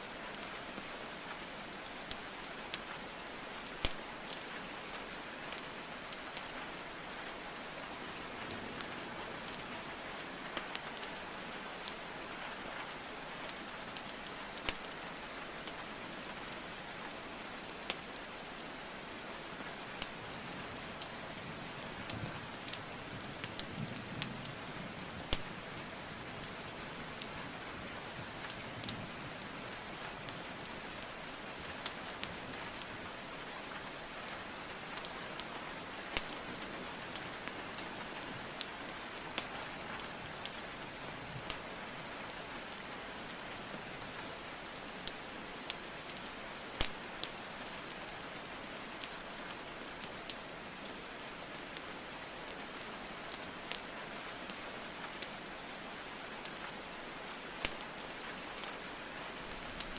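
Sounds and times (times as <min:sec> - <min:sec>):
rain hiss: 0:00.0 - 0:59.9
wood fire crackling: 0:00.3 - 0:59.9.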